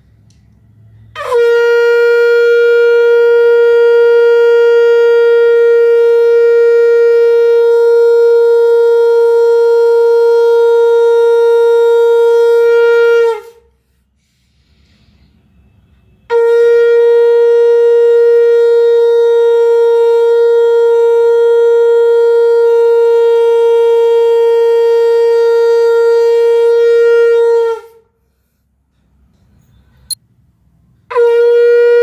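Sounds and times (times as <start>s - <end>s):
conch shell blast: 0.8s - 13.7s, 16.0s - 28.1s, 31.1s - 32.0s.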